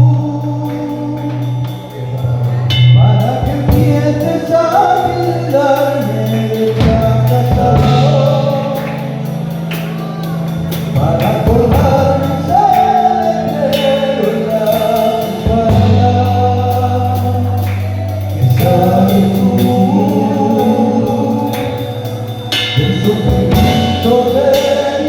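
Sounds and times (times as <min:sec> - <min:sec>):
held bass notes: 0:00.0 - 0:25.0
voices singing slow melody: 0:00.0 - 0:25.0.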